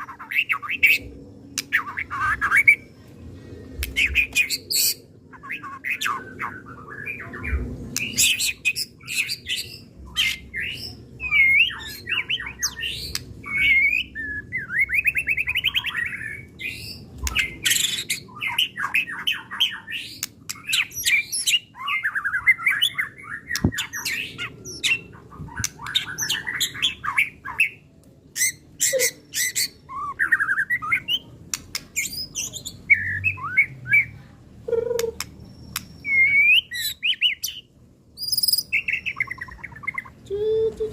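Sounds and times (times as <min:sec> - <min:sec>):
songbird singing whistles and trills: 0:03.8 - 0:27.8, 0:28.4 - 0:40.9.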